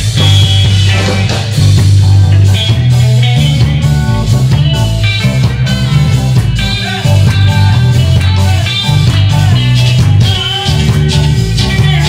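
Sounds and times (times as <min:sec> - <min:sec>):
heavy bass line: 0:00.0 - 0:12.0
live reggae band: 0:00.0 - 0:12.0.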